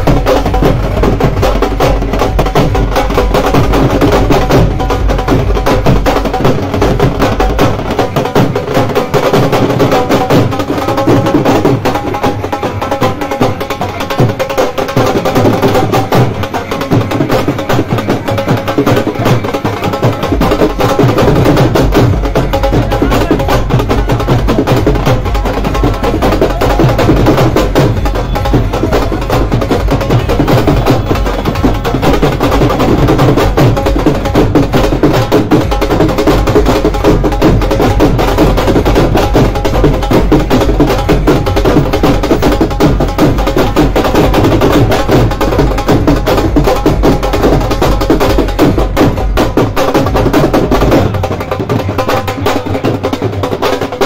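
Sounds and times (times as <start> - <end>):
dhol drum fast beat: 0.0 - 54.0.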